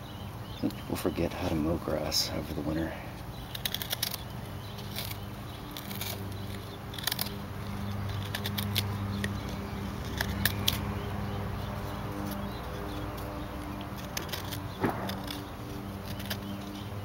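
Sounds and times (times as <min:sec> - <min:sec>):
knife shaving wood: 0:02.8 - 0:17.0.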